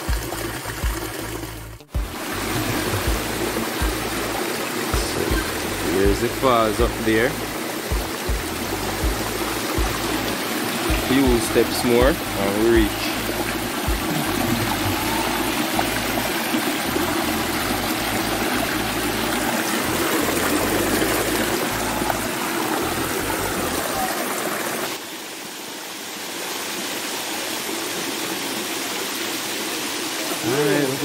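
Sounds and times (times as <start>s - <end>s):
stream rushing over stones: 0.0s - 31.0s.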